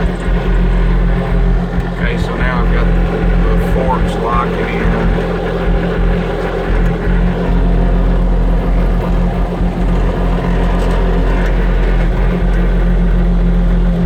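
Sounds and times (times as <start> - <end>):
diesel engine low drone: 0.0 - 14.0.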